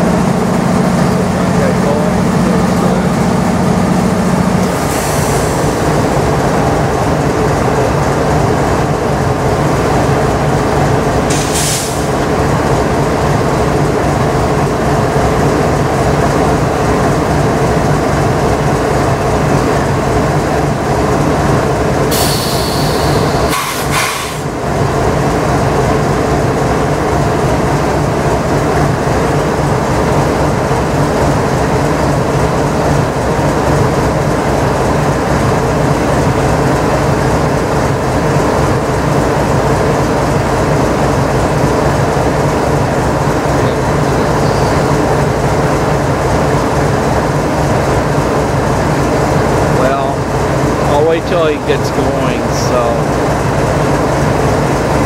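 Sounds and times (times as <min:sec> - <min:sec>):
diesel locomotive humming: 0:00.0 - 0:55.0.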